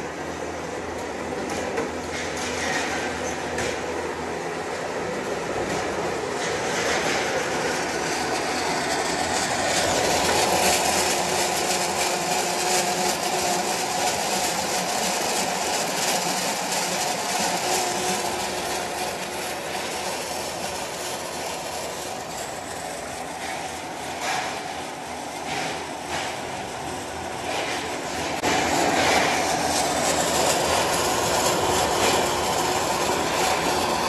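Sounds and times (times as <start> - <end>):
machine clatter and rumble: 0.0 - 34.0.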